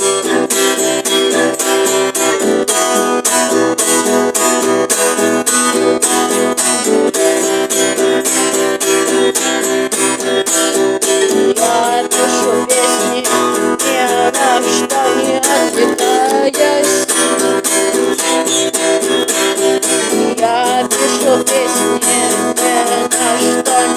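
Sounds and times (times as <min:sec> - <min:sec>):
instrumental guitar rock: 0:00.0 - 0:23.9
wavering lead melody: 0:00.8 - 0:23.9.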